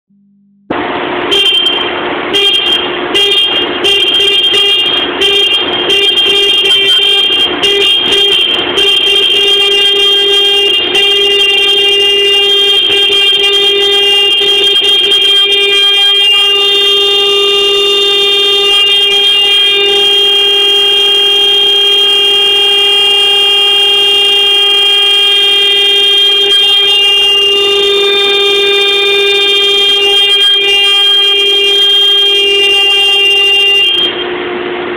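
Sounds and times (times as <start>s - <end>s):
forklift horn buzzing: 0.7s - 34.9s.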